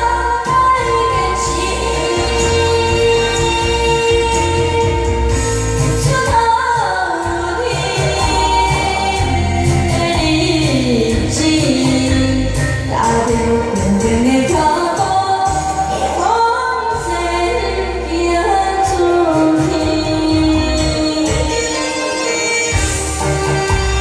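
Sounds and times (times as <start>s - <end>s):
girl singing into microphone: 0.0s - 5.1s, 6.0s - 22.8s
pop backing track with bass: 0.0s - 24.0s.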